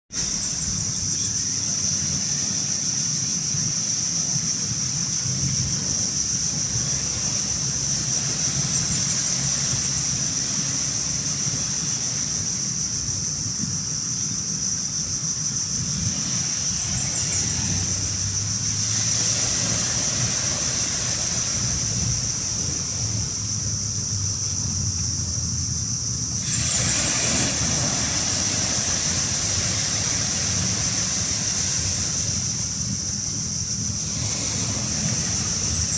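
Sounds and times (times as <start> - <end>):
high-pitched whine: 0.1 - 35.9
low motor hum: 0.1 - 35.9
water and wind noise: 0.1 - 35.9.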